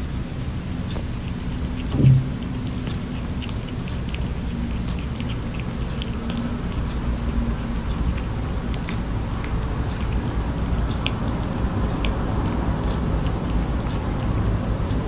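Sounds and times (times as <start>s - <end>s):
kitten chewing: 0.0s - 15.0s
steady low hum: 0.0s - 15.0s.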